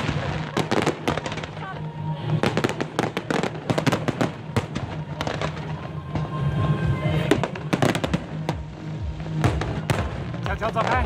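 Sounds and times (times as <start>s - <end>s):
fireworks crackling: 0.0s - 11.0s
fireworks cracks and bangs: 0.0s - 11.0s
music playing: 0.0s - 11.0s.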